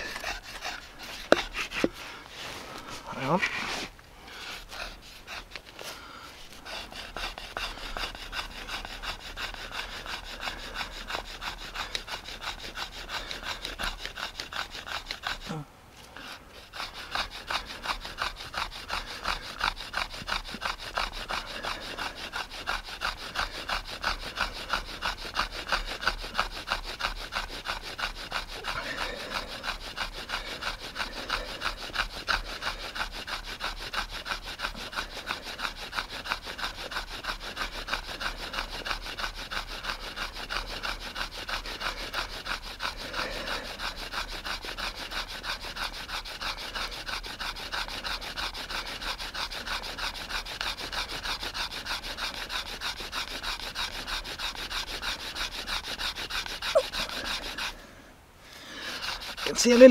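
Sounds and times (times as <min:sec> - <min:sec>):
wooden stick rasping on board: 0:00.0 - 0:57.9, 0:58.6 - 0:59.9.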